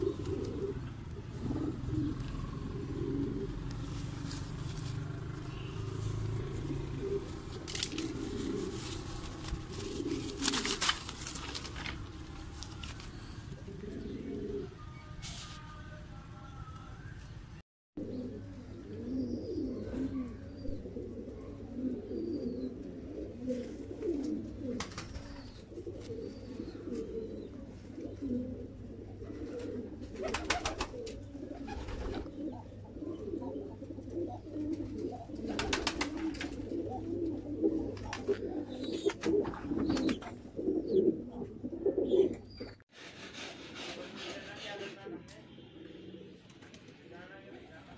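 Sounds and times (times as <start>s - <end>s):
pigeons cooing: 0.0s - 14.8s, 18.0s - 47.1s.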